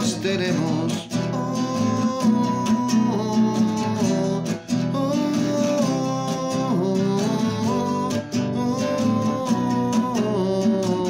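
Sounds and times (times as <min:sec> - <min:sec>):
man singing wordless notes: 0:00.0 - 0:11.0
strummed acoustic guitar: 0:00.0 - 0:11.0.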